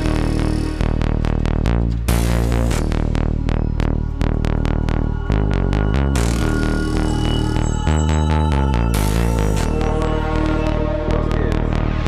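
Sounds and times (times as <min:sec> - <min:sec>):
electronic music with pulsing beat: 0:00.0 - 0:12.0.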